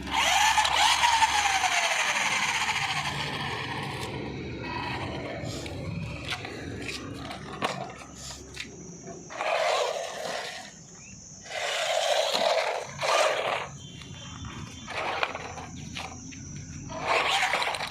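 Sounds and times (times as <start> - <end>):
rc car motor and tyres surging: 0.0 - 17.9.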